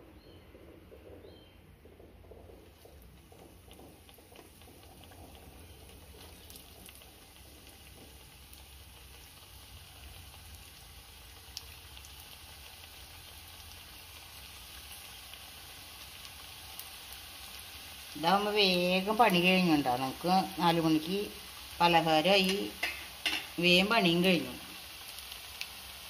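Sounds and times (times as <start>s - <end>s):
fritters sizzling in oil: 0.0s - 26.0s.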